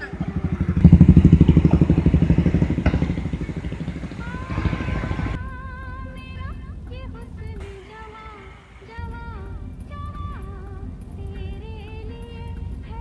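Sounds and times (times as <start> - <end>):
vehicle engine throbbing: 0.0 - 13.0.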